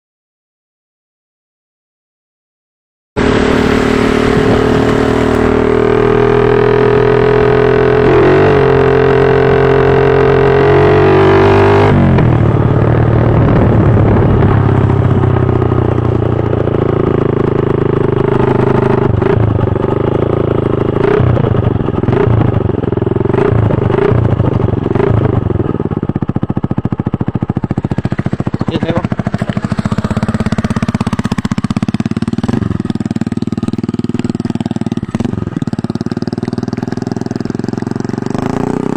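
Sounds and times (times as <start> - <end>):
motorcycle engine revving: 3.2 - 38.9.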